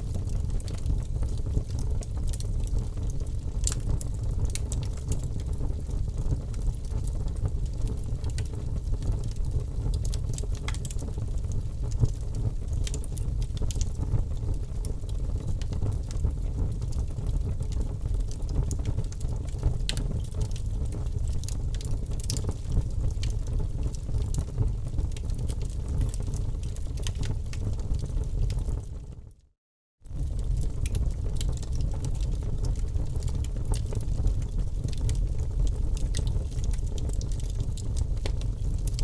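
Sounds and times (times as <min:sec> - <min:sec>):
wood fire crackling: 0:00.0 - 0:29.1, 0:30.1 - 0:39.0.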